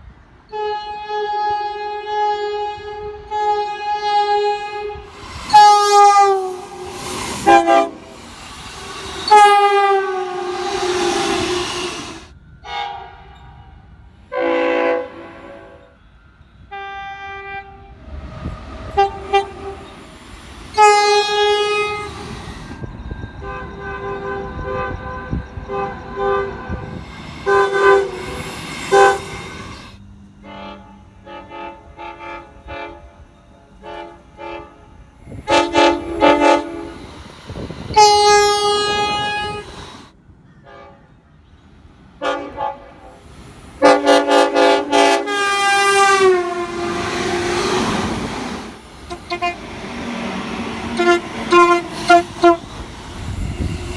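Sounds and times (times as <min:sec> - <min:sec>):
low rumble of passing trains: 0:00.0 - 0:53.9
locomotive horns blasting: 0:00.5 - 0:41.2, 0:42.2 - 0:53.9.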